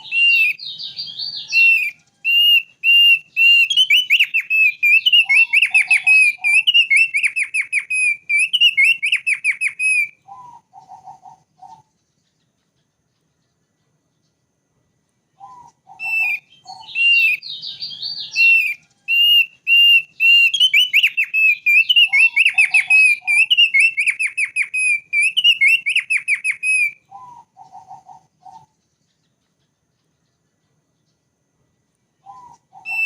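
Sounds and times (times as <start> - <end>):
bird singing whistled notes: 0.0 - 14.4, 15.3 - 31.3, 32.1 - 33.0.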